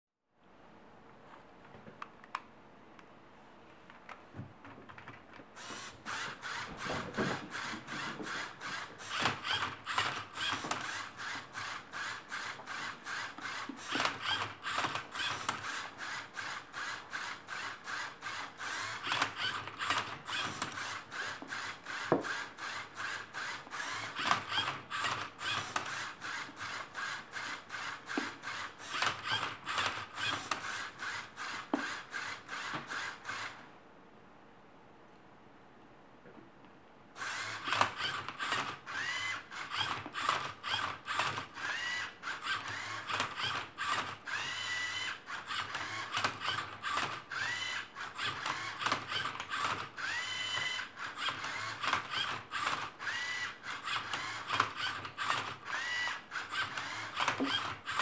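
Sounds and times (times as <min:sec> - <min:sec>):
robot motors whirring and clicking: 0:05.6 - 0:33.6, 0:37.2 - 0:58.0.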